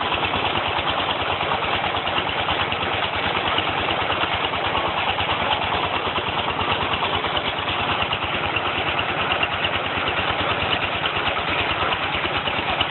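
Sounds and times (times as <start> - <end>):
machine engine chugging: 0.0 - 12.9.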